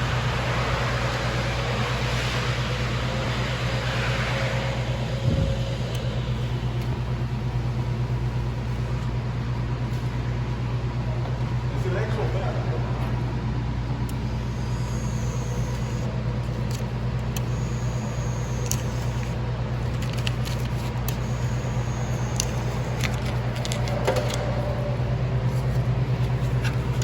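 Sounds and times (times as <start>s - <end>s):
low hum: 0.0s - 11.7s, 12.5s - 27.0s.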